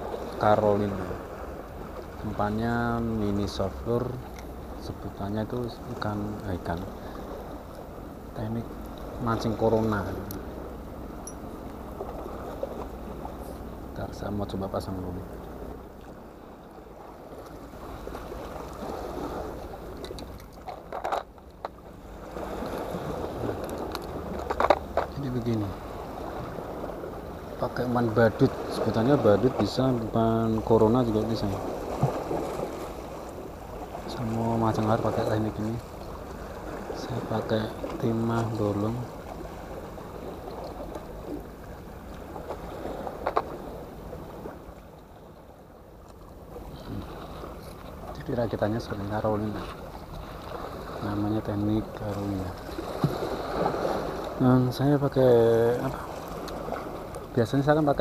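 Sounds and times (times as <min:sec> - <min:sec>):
sea water washing against rocks: 0:00.0 - 0:44.9, 0:46.4 - 0:58.0.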